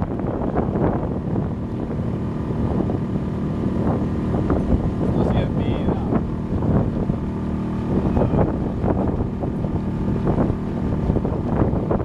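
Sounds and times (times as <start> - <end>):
boat motor humming: 0.0 - 12.0
wind buffeting microphone: 0.0 - 12.0.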